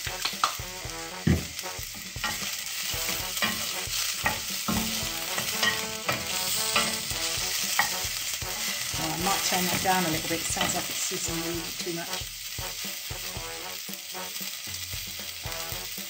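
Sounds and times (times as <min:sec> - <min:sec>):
onions sizzling in hot oil: 0:00.0 - 0:16.0
wooden spoon scraping a pan: 0:00.2 - 0:14.6.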